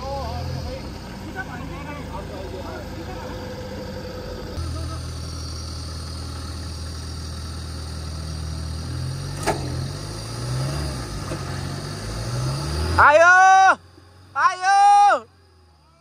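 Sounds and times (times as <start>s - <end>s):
engine running at low revs: 0.0s - 14.6s.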